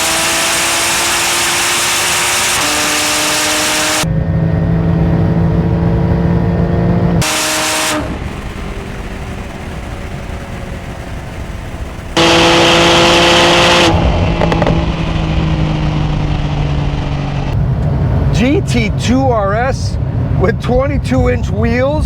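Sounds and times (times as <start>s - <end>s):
sports car engine at speed: 0.0s - 22.0s
wind and road rush: 0.0s - 22.0s.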